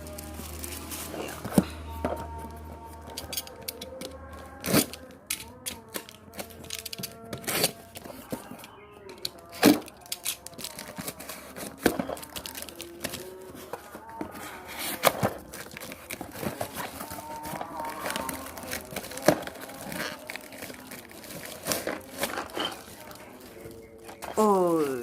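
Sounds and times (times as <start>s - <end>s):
plastic packaging tearing: 0.0s - 25.0s.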